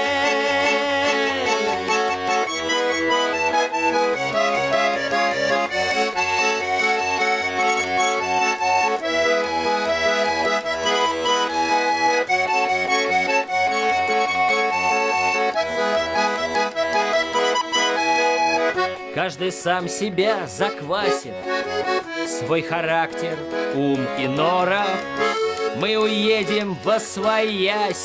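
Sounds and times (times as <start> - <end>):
accordion playing chords: 0.0 - 28.0.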